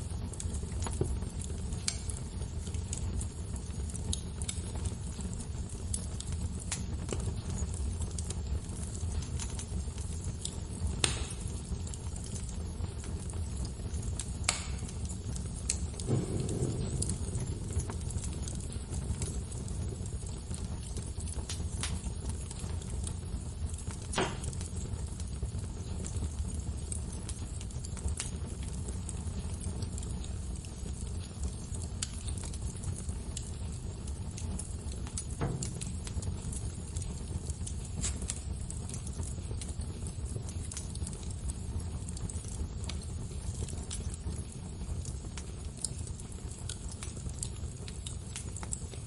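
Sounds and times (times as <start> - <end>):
burning wood rumble: 0.0 - 49.0
sharp fire pops: 0.0 - 49.0.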